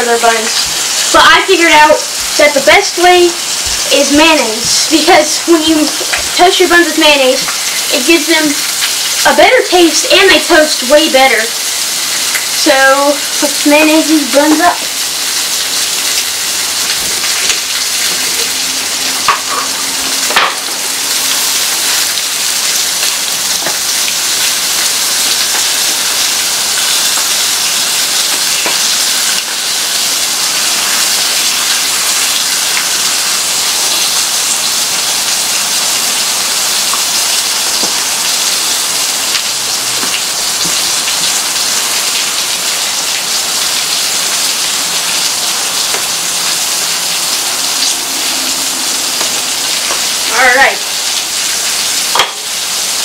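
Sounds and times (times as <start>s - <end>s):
bacon sizzling on griddle: 0.0s - 53.0s
rain falling: 0.0s - 53.0s.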